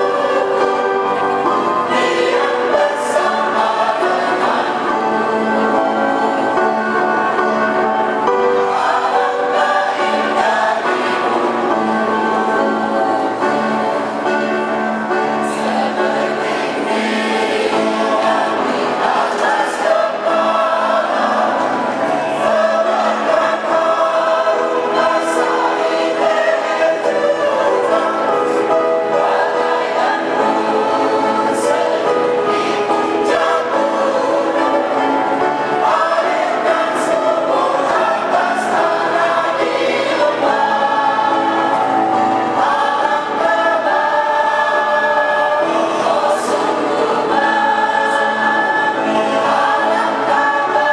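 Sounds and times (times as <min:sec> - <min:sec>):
mixed choir singing: 0:00.0 - 0:50.9.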